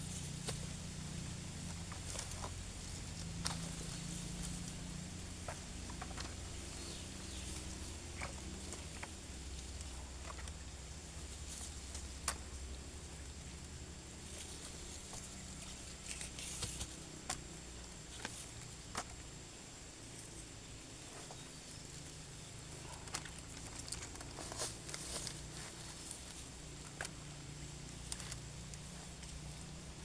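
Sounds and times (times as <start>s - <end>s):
dry leaves and twigs crackling: 0.0s - 30.0s.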